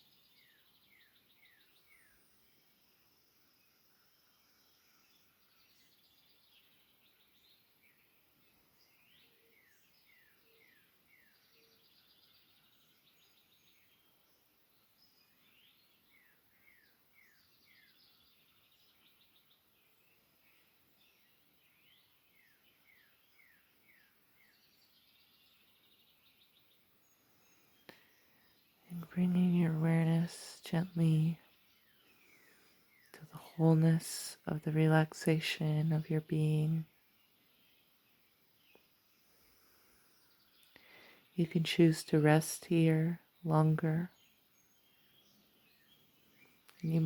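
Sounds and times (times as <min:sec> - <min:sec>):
faint bird chirps: 0:00.0 - 0:47.0.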